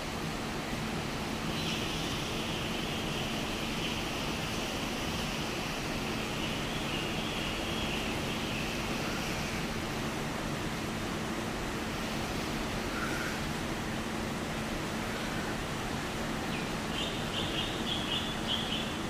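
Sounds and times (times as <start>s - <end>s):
faint steady hum: 0.0s - 19.0s
steady rain falling: 0.0s - 19.0s.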